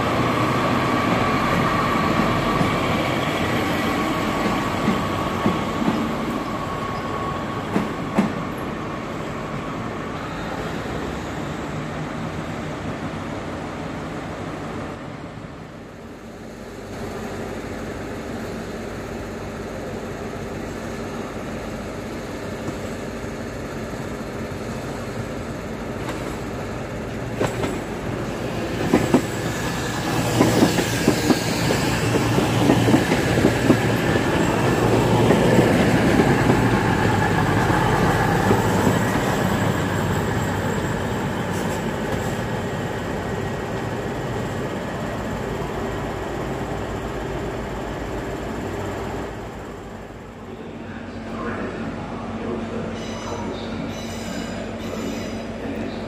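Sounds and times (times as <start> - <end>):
diesel train passing: 0.0 - 56.0.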